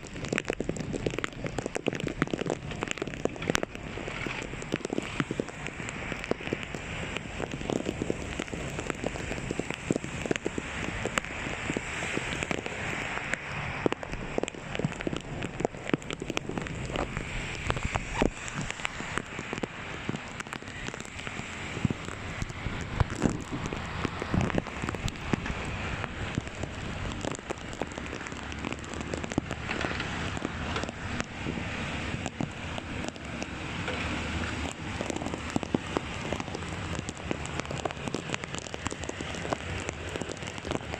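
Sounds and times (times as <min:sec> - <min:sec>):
close raindrop hits: 0:00.0 - 0:40.9
steady rain falling: 0:00.0 - 0:40.9.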